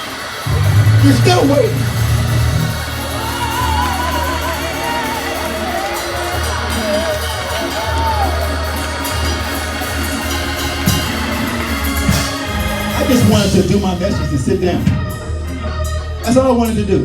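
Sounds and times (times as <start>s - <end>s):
sung melody line: 0.4s - 16.6s
organ and bass notes: 0.4s - 17.0s.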